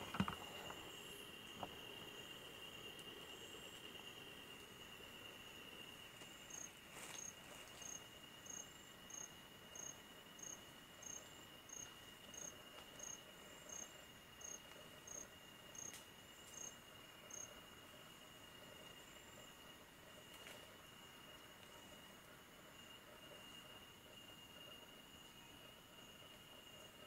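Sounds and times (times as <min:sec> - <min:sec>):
insect high trill: 0:00.0 - 0:27.0.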